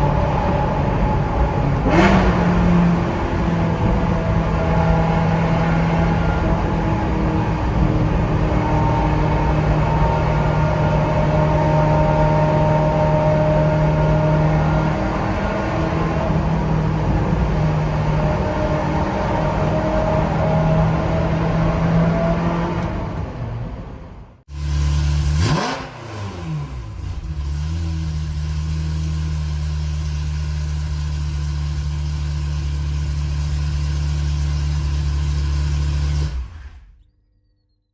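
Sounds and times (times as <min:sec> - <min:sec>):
sports car engine revving: 0:00.0 - 0:23.4, 0:24.5 - 0:36.9.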